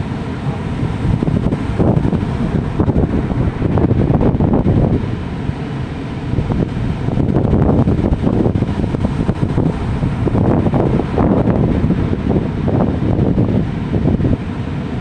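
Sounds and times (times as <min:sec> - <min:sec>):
ocean waves: 0:00.0 - 0:15.0
wind buffeting microphone: 0:00.0 - 0:15.0.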